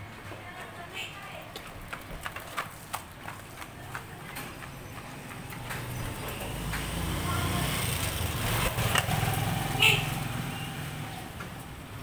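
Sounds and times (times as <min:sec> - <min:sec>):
motor vehicle engine rumble: 0:01.8 - 0:12.0.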